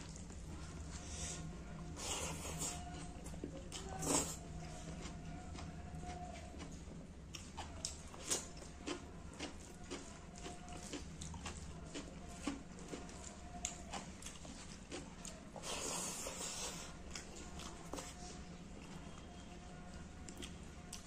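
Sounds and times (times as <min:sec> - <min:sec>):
person chewing food: 0:00.0 - 0:19.3, 0:20.0 - 0:21.0.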